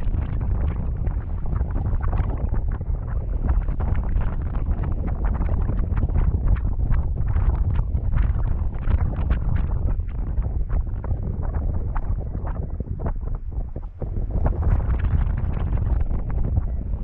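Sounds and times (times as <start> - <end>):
gust crackles on microphone: 0.0 - 17.0
wind buffeting microphone: 0.0 - 17.0.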